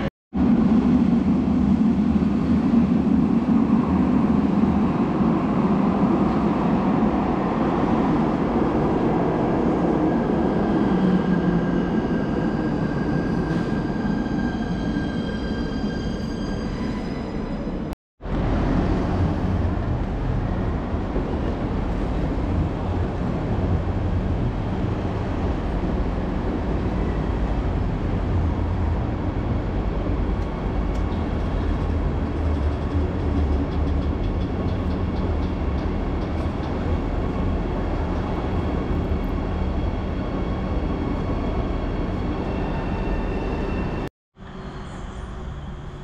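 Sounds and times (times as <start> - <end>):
train rumbling on tracks: 0.0 - 46.0.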